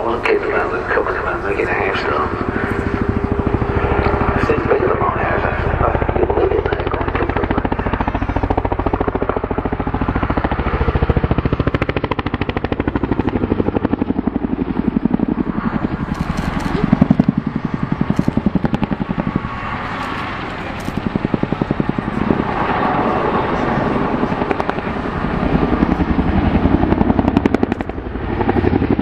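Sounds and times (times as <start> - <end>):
helicopter rotor blades chopping: 0.0 - 29.0
low engine drone: 0.0 - 29.0.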